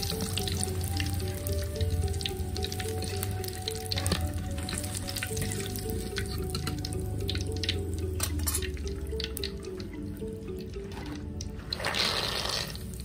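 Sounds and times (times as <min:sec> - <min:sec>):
background music: 0:00.0 - 0:13.0
hot oil crackling and dripping: 0:00.0 - 0:13.0.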